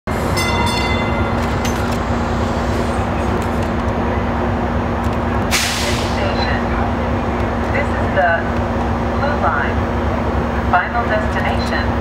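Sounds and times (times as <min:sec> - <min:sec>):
train equipment rumble and hum: 0:00.1 - 0:12.0.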